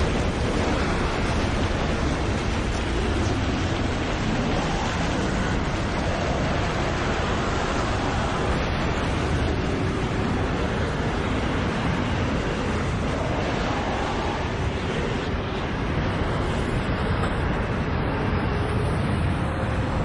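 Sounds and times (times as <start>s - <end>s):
strong wind blowing: 0.0s - 20.0s.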